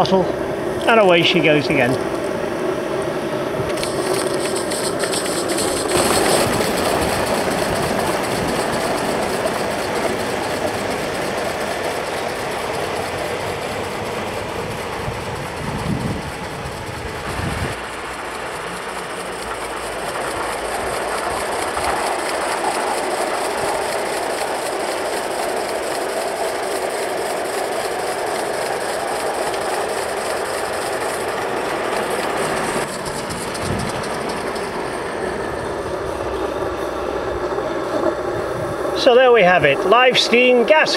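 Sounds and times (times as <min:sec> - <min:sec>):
model steam locomotive running: 0:00.0 - 0:40.9.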